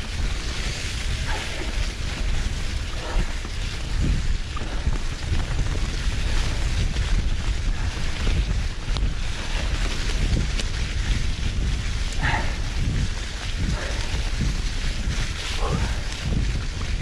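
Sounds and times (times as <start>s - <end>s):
bike tyres crackling through leaves: 0.0s - 17.0s
wind rushing over microphone: 0.0s - 17.0s.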